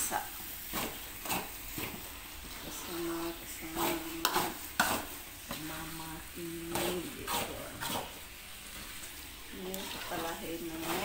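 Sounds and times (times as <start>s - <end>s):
spatula scraping sticky rice: 0.2s - 11.0s.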